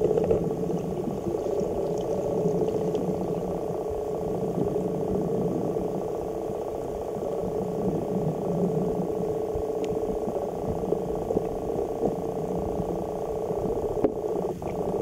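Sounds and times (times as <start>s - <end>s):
faint crackle: 0.0s - 15.0s
muffled underwater rumble: 0.0s - 15.0s.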